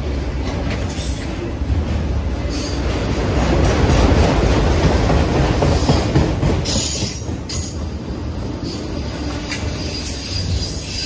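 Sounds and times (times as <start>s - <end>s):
freight train wheels on rail: 0.0s - 11.0s.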